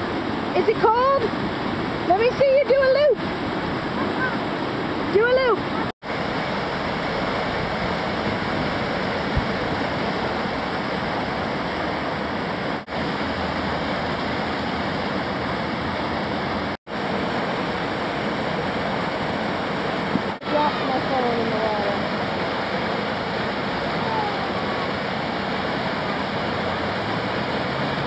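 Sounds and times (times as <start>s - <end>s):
rushing whitewater: 0.0s - 28.0s.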